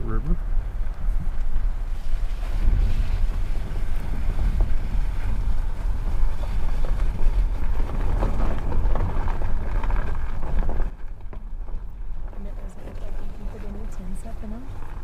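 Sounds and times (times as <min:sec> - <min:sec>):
car tyres on snowy road: 0:00.0 - 0:15.0
wind buffeting microphone: 0:00.0 - 0:15.0.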